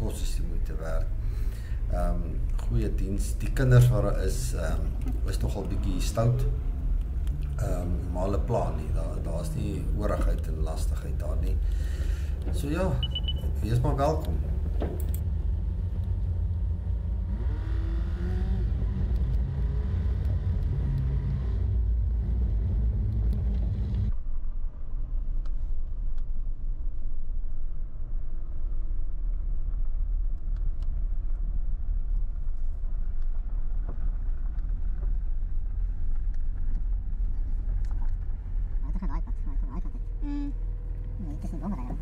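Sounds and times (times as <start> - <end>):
vehicle engine and road rumble: 0.0 - 42.0.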